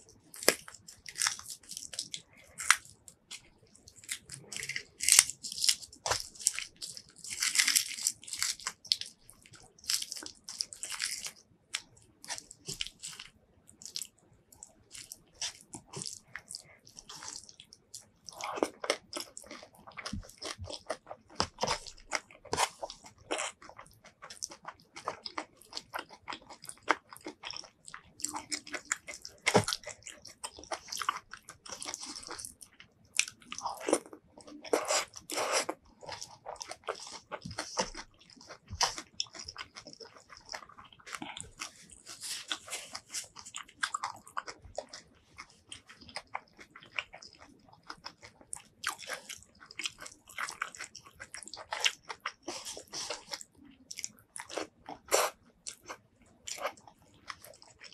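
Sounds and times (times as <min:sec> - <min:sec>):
chewing and crunching food: 0:00.0 - 0:57.9
fingers squishing soft rice: 0:00.2 - 0:57.9.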